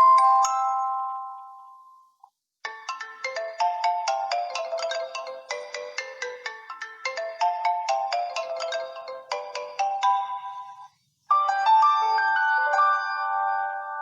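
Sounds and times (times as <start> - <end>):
ringtone melody of short notes: 0.0 - 14.0
ringtone with long held notes: 0.0 - 14.0.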